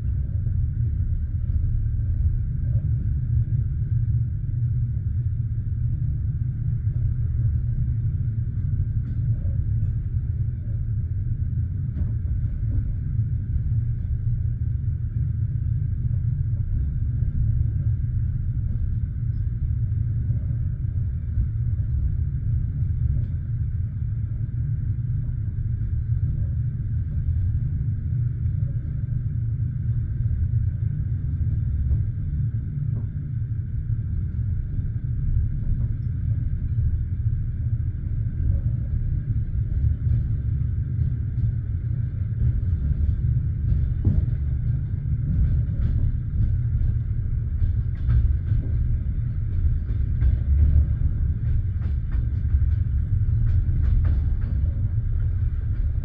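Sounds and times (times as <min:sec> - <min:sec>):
train carriage rumble: 0:00.0 - 0:56.0.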